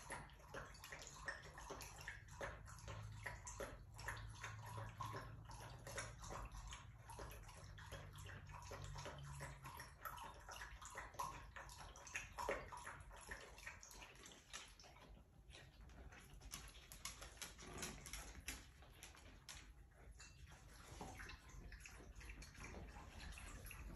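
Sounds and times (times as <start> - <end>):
dog lapping water: 0.0 - 23.9.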